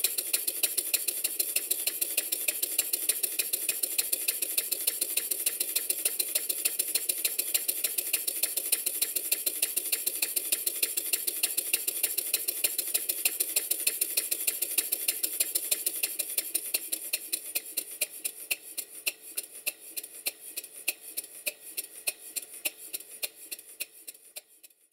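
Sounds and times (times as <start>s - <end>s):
light mechanical clicks: 0.0s - 24.8s
model steam engine running: 0.0s - 24.8s.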